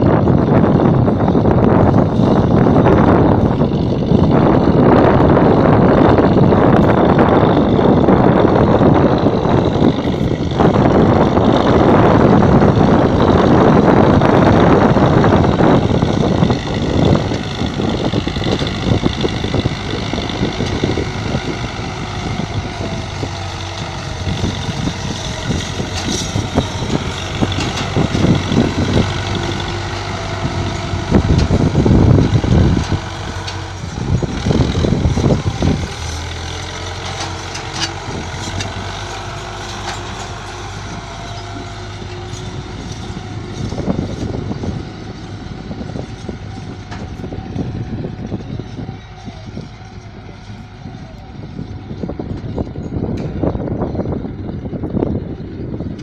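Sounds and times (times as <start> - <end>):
tractor diesel engine running: 0.0 - 56.0
wind buffeting microphone: 0.0 - 56.0.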